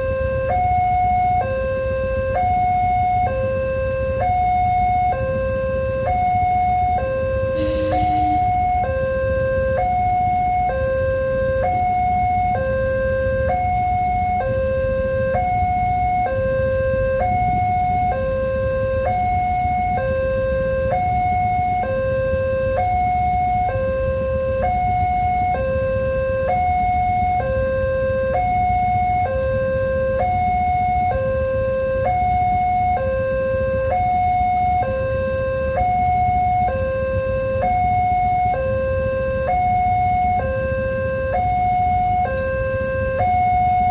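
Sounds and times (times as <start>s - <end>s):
level-crossing alarm two tones: 0.0s - 43.9s.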